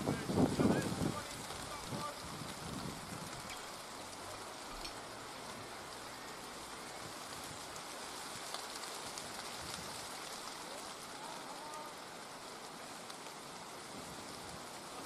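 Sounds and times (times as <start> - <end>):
patter of raindrops: 0.0 - 15.0
steady rain hiss: 0.0 - 15.0.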